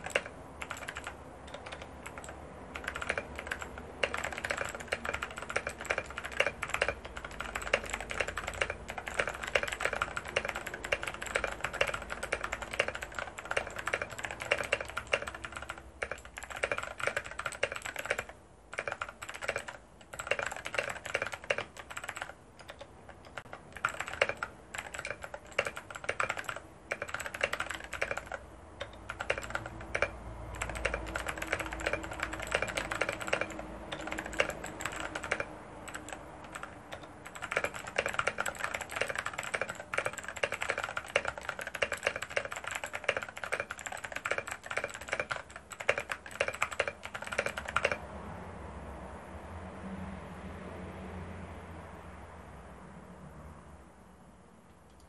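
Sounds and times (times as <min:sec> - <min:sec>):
fast mechanical keyboard typing: 0:00.0 - 0:48.0.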